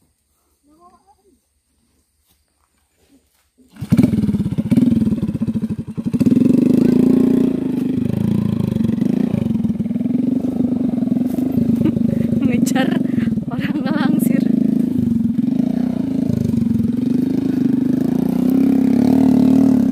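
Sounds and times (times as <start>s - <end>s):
small engine pulsing: 3.7s - 19.9s.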